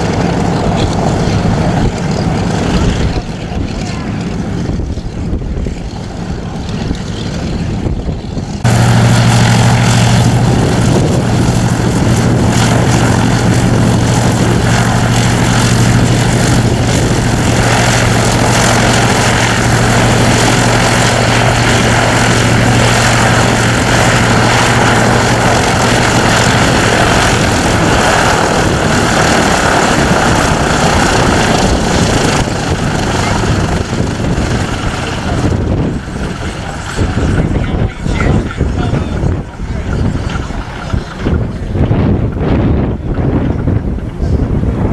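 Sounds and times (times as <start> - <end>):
propeller aircraft engine drone: 0.0 - 44.9
wind noise: 0.0 - 44.9.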